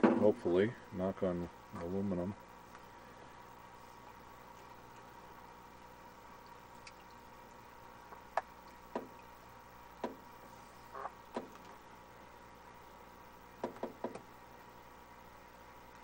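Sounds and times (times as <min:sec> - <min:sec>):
quiet steady hum: 0:00.0 - 0:16.0.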